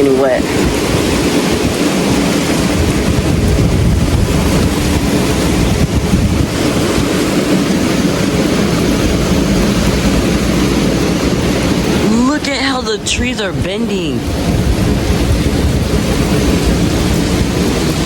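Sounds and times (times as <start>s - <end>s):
heavy low rumble: 0.0s - 18.0s
rain: 0.0s - 18.0s
wind buffeting microphone: 0.0s - 18.0s.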